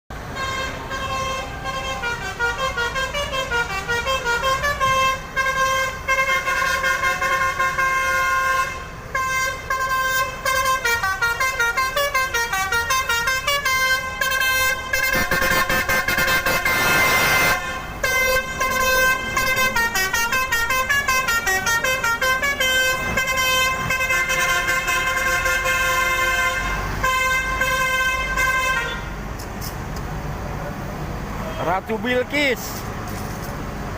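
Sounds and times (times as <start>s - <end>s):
bus musical horn playing melodies: 0.1s - 29.2s.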